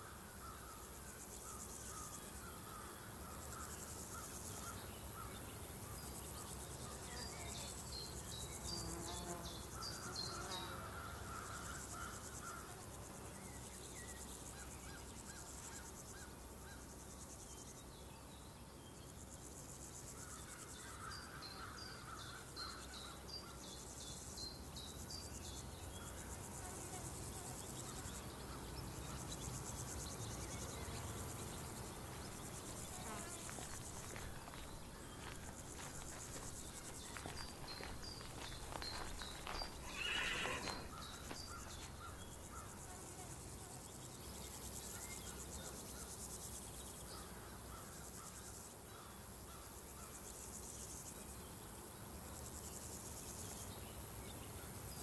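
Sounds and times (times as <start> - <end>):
crickets chirring: 0.0 - 55.0
insects buzzing: 0.0 - 55.0.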